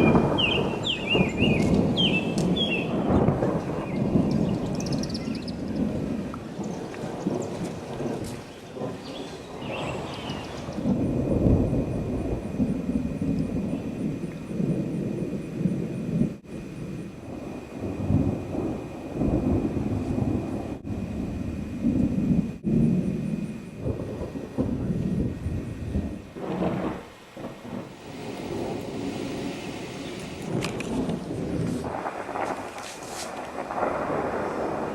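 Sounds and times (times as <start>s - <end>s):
rolling thunder rumble: 0.0s - 34.9s.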